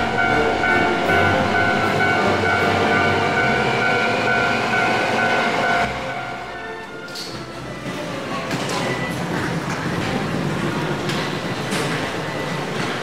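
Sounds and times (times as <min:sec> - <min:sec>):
electric train rumbling past: 0:00.0 - 0:13.0.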